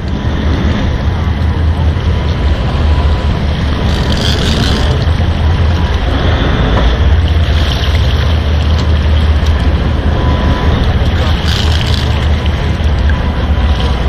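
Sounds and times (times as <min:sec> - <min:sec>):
boat engines rumbling: 0:00.0 - 0:14.0
wind and water noise: 0:00.0 - 0:14.0.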